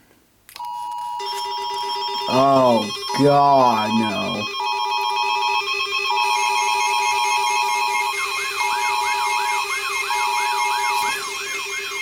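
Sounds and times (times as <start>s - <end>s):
electronic alarm beeps: 0.6s - 12.0s
steady lower alarm tone: 0.7s - 12.0s.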